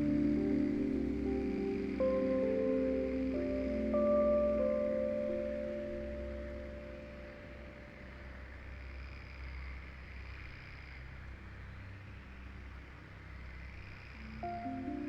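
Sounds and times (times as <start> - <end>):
soft sustained music notes: 0.0 - 10.2, 11.1 - 15.0
low rumble and hiss: 0.0 - 15.0.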